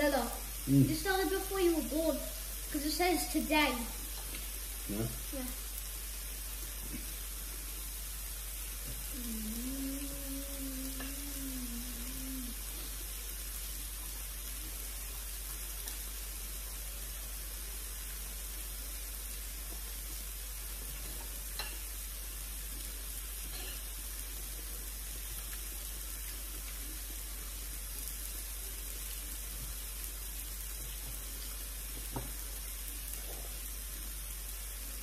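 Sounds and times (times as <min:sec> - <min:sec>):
meat sizzling on grill plate: 0:00.0 - 0:35.0.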